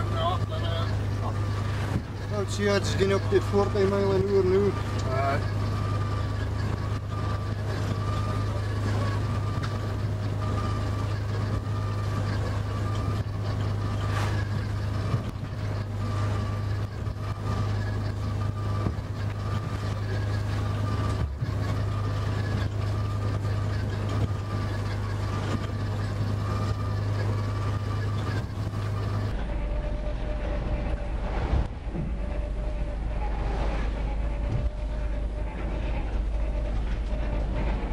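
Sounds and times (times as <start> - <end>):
boat engine droning: 0.0 - 37.9
faint steady whine: 0.0 - 37.9.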